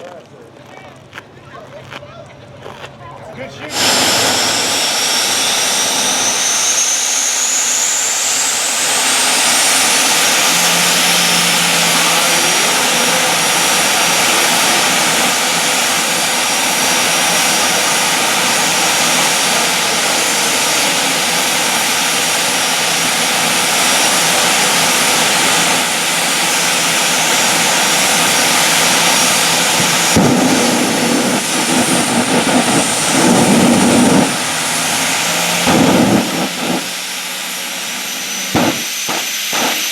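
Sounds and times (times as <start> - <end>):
jet turbine engine roaring: 3.4 - 39.9.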